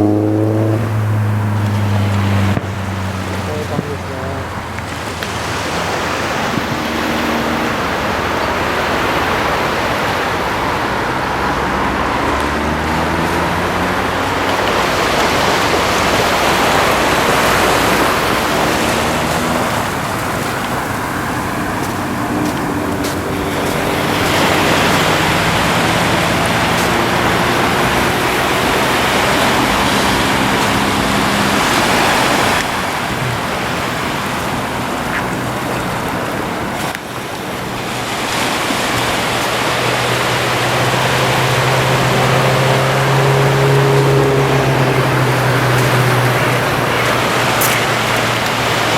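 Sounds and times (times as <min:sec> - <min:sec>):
motor low drone: 0:00.0 - 0:48.9
ocean surf breaking: 0:00.0 - 0:48.9.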